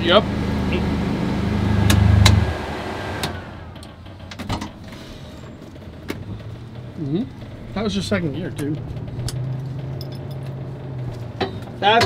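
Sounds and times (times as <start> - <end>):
faint turbo whine: 0.0 - 12.0.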